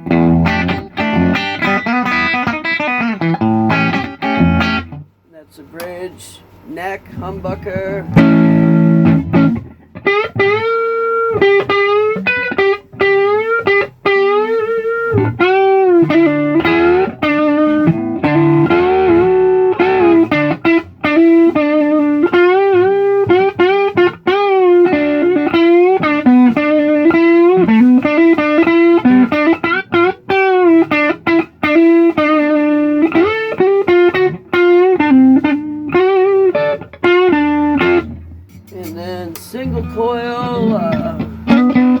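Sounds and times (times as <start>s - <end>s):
electric guitar lead line: 0.0s - 5.1s, 7.1s - 42.0s.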